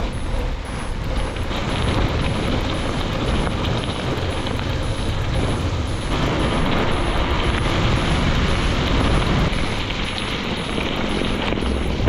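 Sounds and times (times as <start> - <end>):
wind on microphone: 0.0 - 12.0
bicycle tyres on wet gravel: 0.9 - 12.0.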